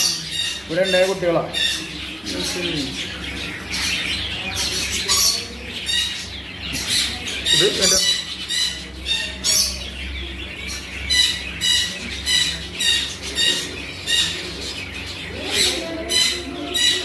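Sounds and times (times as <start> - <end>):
caged birds squawking: 0.0 - 17.0.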